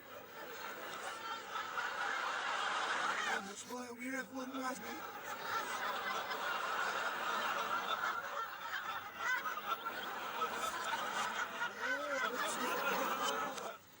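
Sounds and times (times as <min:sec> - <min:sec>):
reversed audience laughter: 0:00.0 - 0:03.6, 0:04.5 - 0:14.0.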